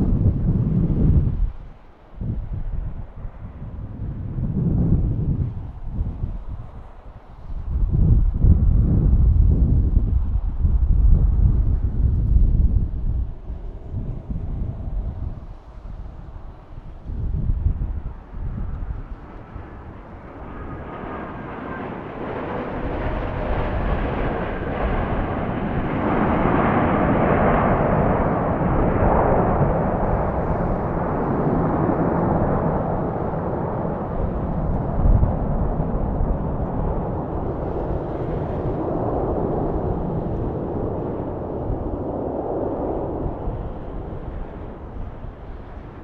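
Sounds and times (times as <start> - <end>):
jet engine rumble: 0.0 - 46.0.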